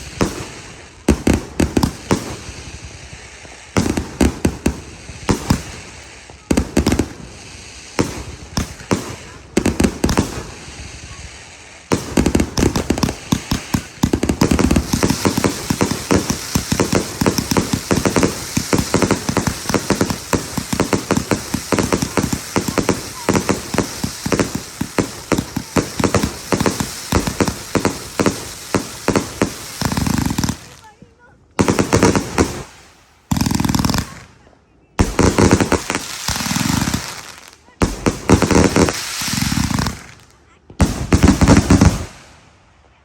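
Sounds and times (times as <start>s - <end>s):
firework barrage bangs: 0.0s - 2.9s, 3.5s - 31.0s, 31.6s - 42.3s.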